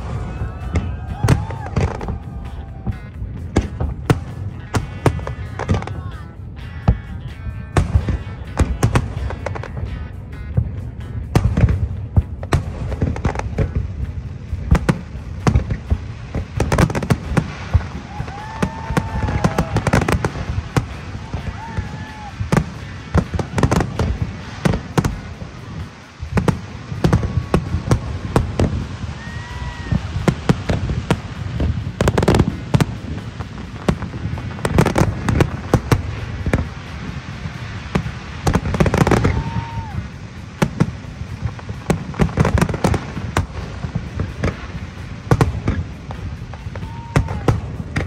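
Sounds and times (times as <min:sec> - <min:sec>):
fireworks bursting with crackle: 0:00.0 - 0:48.0.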